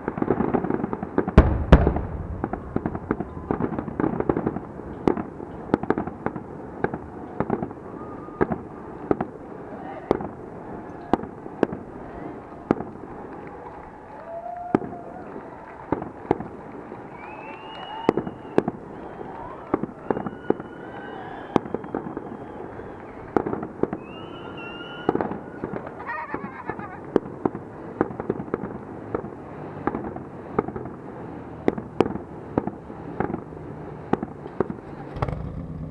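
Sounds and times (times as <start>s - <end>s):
fireworks bangs and pops: 0.0s - 13.9s, 14.7s - 35.9s.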